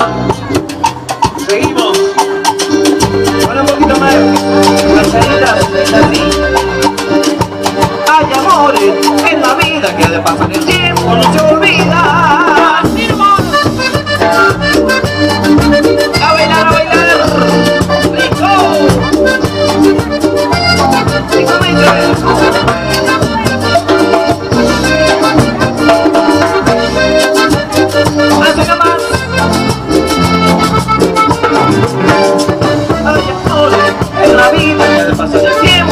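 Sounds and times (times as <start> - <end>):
cumbia band playing: 0.0 - 35.9.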